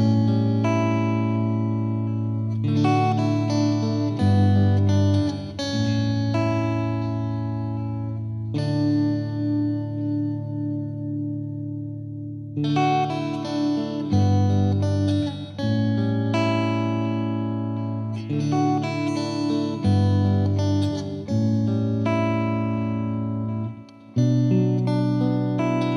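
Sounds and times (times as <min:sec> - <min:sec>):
guitar chords plucked and strummed: 0:00.0 - 0:25.9.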